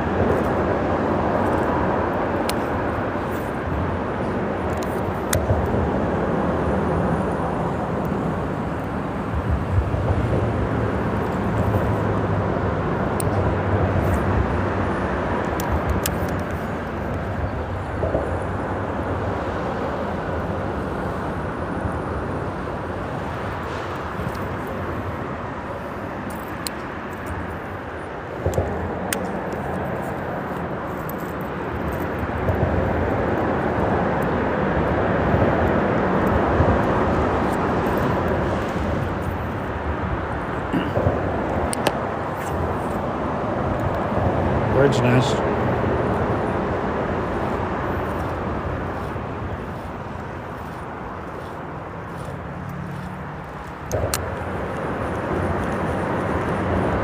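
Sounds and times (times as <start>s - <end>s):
freeway traffic rumble: 0.0s - 57.0s.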